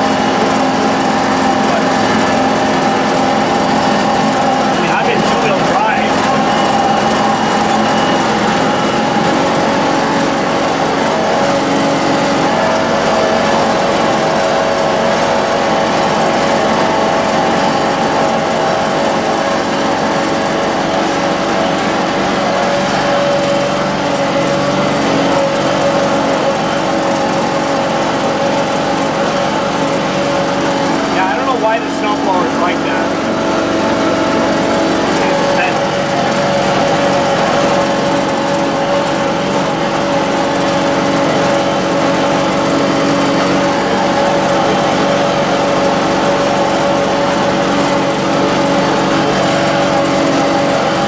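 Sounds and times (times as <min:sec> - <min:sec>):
garden tractor engine droning: 0:00.0 - 0:51.0
steady whine: 0:00.0 - 0:51.0.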